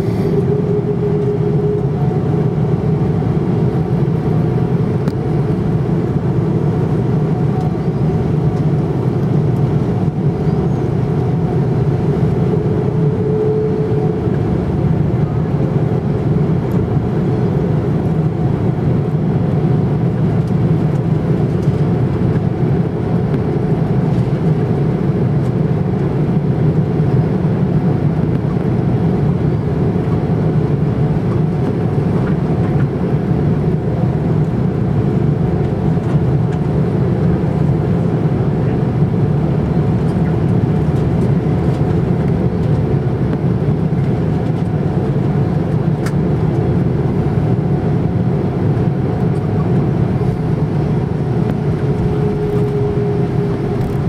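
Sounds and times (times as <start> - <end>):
aircraft engines low rumble: 0.0 - 54.0.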